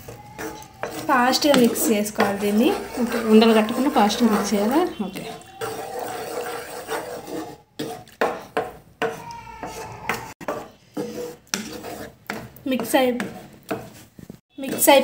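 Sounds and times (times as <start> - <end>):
wooden spatula scraping a pan: 0.0 - 15.0.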